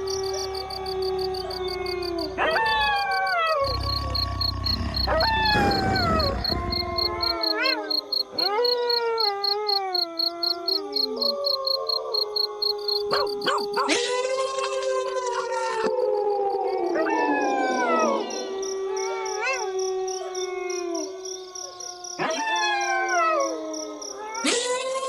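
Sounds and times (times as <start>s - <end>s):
wolves howling: 0.0s - 24.5s.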